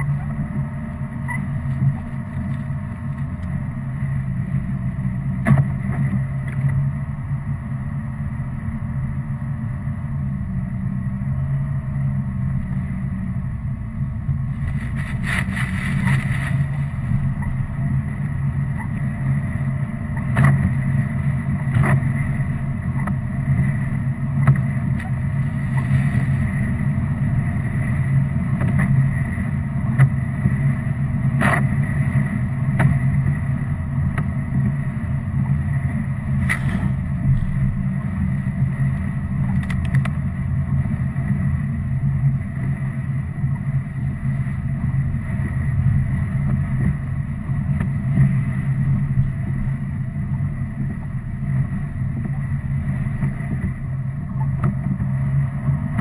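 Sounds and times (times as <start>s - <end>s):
engine and tyre drone: 0.0s - 56.0s.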